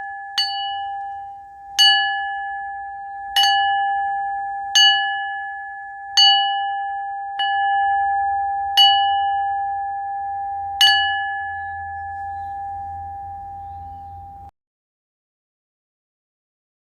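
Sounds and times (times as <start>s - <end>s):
singing bowl ringing: 0.0s - 14.5s.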